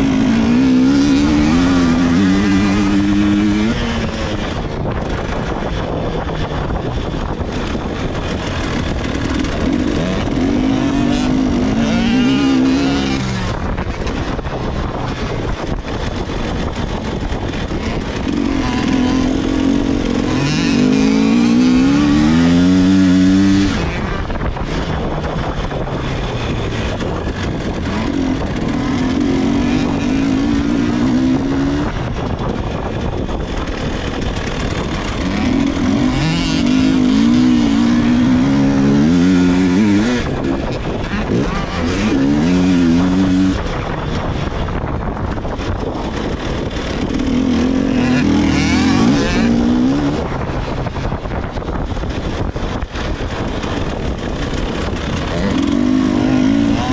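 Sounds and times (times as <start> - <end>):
two-stroke motorcycle revving: 0.0 - 56.9.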